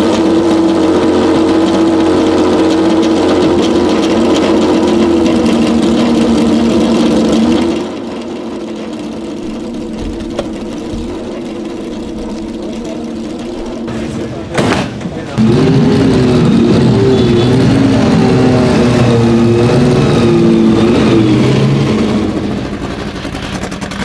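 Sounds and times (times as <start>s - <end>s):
racing engine idling: 0.0s - 24.0s.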